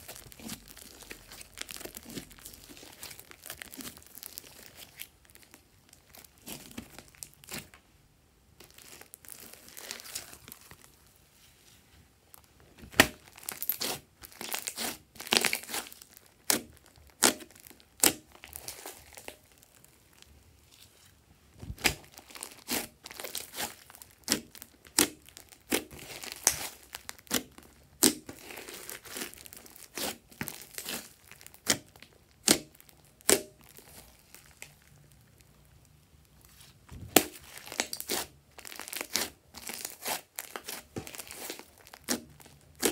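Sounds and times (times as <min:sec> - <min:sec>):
slime squelching and popping: 0:00.0 - 0:07.8, 0:12.8 - 0:20.3, 0:21.6 - 0:35.6, 0:36.2 - 0:42.9.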